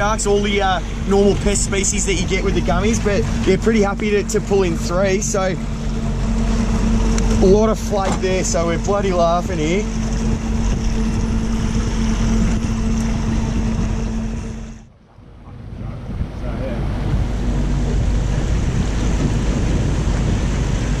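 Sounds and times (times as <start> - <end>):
outboard motor running: 0.0 - 21.0
rush of wind and water: 0.0 - 21.0.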